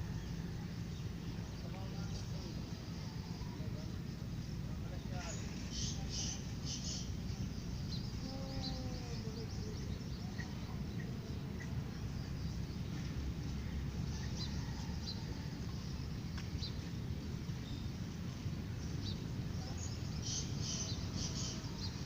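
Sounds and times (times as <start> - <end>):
birds chirping: 0.0 - 22.0
low background rumble: 0.0 - 22.0.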